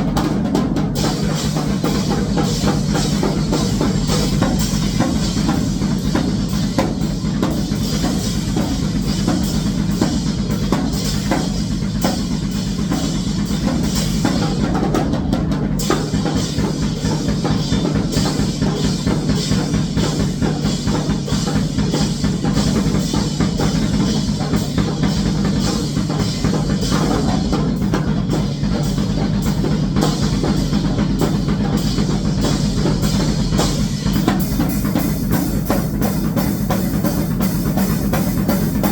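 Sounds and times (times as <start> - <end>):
fast drum kit playing: 0.0 - 38.9.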